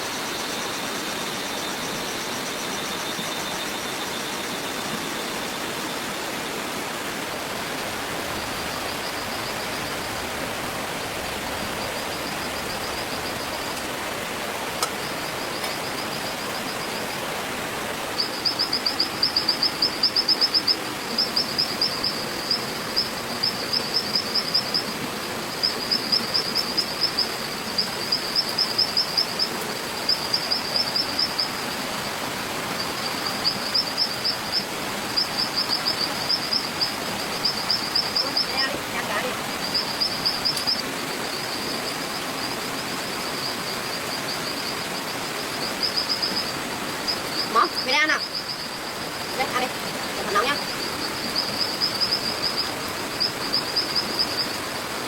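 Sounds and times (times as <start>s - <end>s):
steady hiss of forest ambience: 0.0s - 55.0s.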